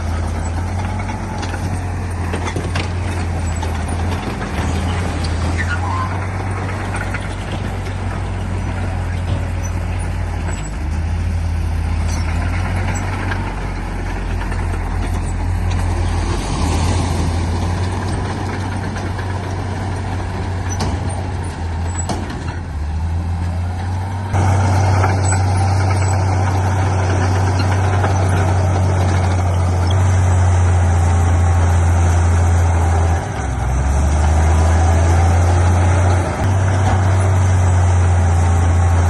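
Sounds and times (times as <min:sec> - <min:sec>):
diesel engine droning: 0:00.0 - 0:39.0
machinery clatter and rumble: 0:00.0 - 0:39.0.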